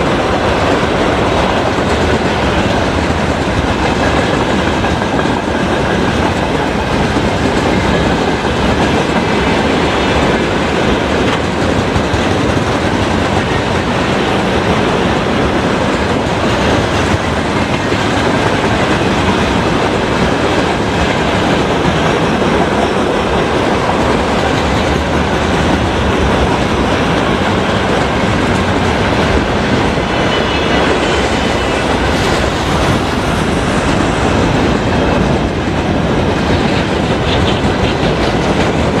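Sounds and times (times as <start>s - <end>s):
freight train rumbling past: 0.0s - 39.0s
wheels clacking over rail joints: 0.0s - 39.0s.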